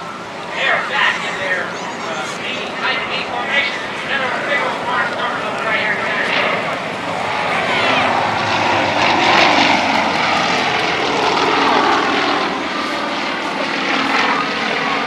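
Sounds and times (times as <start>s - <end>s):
propeller plane engines droning: 0.0s - 15.0s.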